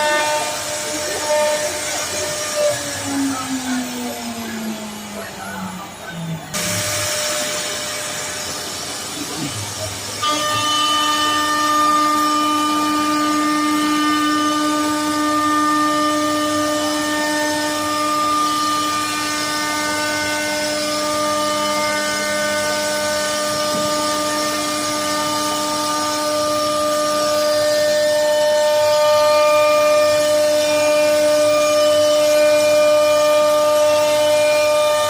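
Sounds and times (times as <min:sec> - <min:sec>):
wood router spindle whining: 0:00.0 - 0:35.0.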